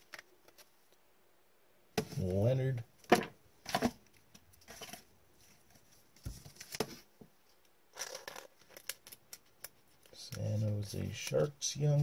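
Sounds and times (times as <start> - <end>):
cards in plastic holders rustling: 0.0 - 1.0, 3.2 - 12.0.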